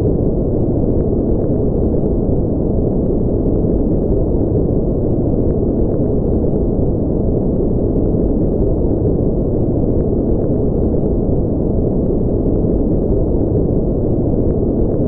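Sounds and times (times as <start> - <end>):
deep rumbly brown noise: 0.0 - 15.0.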